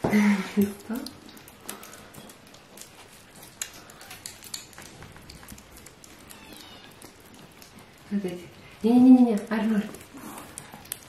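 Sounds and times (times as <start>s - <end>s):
kittens lapping and chewing food: 0.0s - 11.0s.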